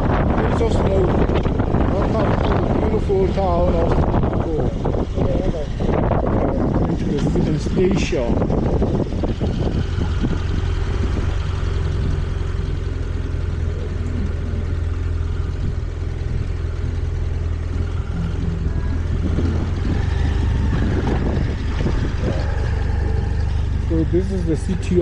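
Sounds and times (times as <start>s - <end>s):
motorcycle engine humming: 0.0s - 25.0s.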